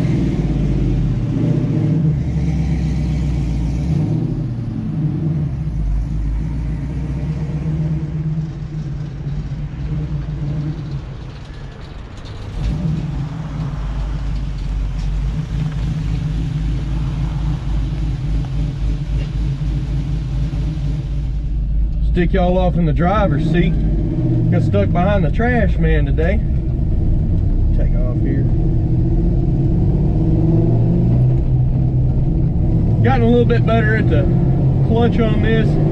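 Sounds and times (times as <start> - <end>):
pickup engine rumbling: 0.0 - 35.9.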